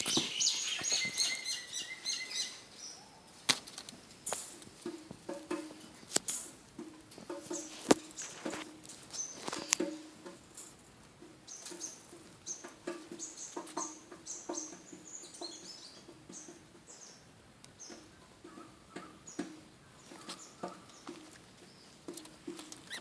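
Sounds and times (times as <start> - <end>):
lovebirds chirping: 0.0 - 5.0, 7.3 - 10.4, 11.4 - 23.0.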